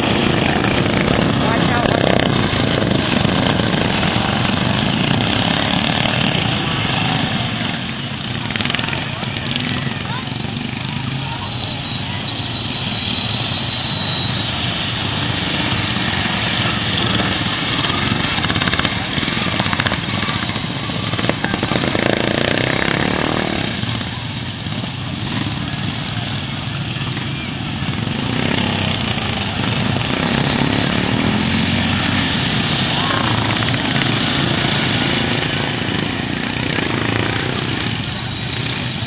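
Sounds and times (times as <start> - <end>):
lawn mower engines running hard: 0.0 - 39.0.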